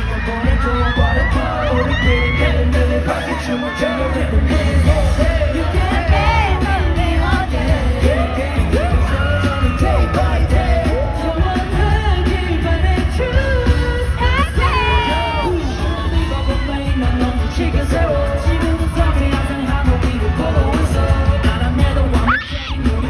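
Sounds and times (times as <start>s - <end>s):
audience yelling: 0.0s - 23.0s
pop song through loudspeakers: 0.0s - 23.0s.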